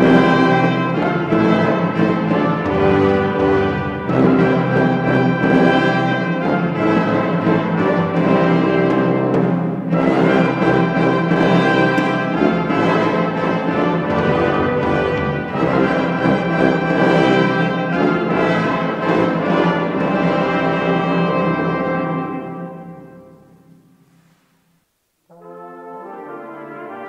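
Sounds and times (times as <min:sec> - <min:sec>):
orchestral music with brass: 0:00.0 - 0:24.3, 0:25.3 - 0:27.0.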